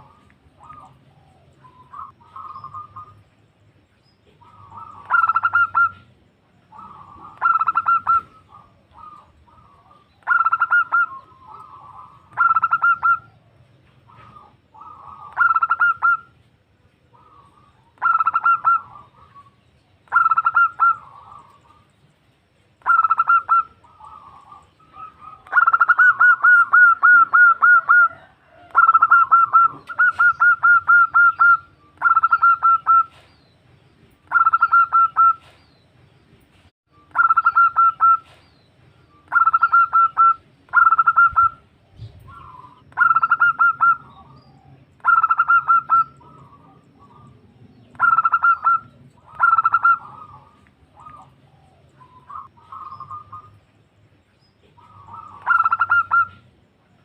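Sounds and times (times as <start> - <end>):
dove cooing: 0.0 - 3.3, 4.2 - 16.4, 17.1 - 21.9, 22.8 - 33.3, 34.2 - 35.6, 37.1 - 38.5, 39.2 - 53.7, 54.6 - 57.0.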